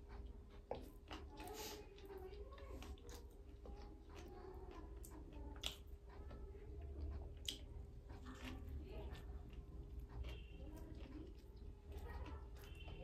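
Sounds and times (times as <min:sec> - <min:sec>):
chewing soft bread: 0:00.0 - 0:13.0.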